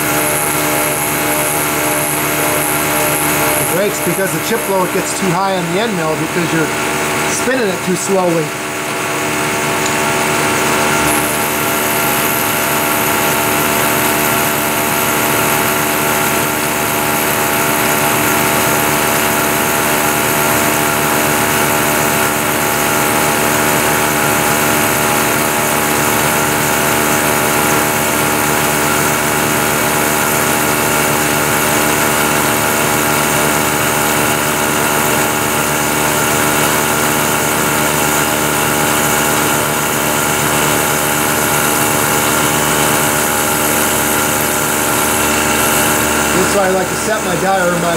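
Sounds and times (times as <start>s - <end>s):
milling machine spindle humming: 0.0s - 47.9s.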